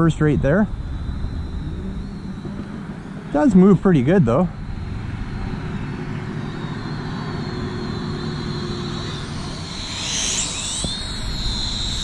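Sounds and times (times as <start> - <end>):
low background rumble: 0.0 - 12.0
toy drone motors whining: 0.0 - 12.0.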